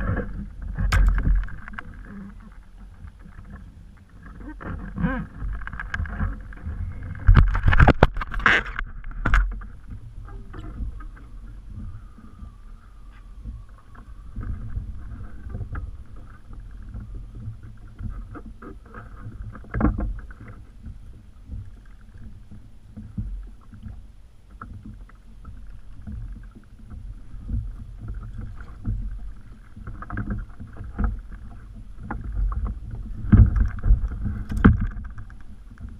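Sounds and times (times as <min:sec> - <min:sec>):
water lapping against kayak hull: 0:00.0 - 0:35.9
wind rumbling on microphone: 0:00.0 - 0:35.9.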